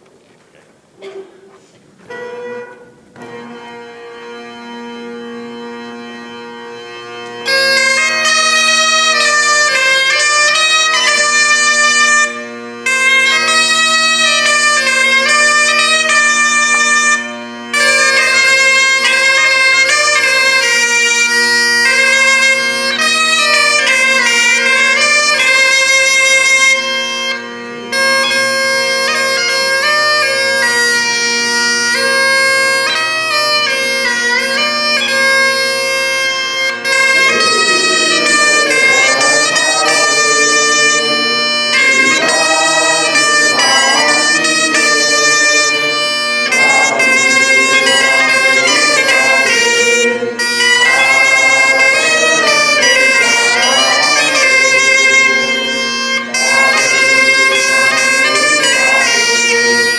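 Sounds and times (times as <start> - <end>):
bagpipe drones: 1.9 - 59.9
reedy melody: 2.0 - 59.9.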